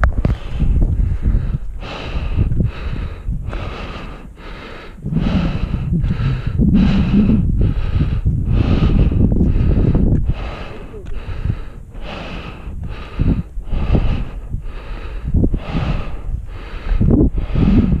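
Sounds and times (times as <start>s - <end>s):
wind rumbling on microphone: 0.0s - 18.0s
person breathing hard: 0.1s - 18.0s.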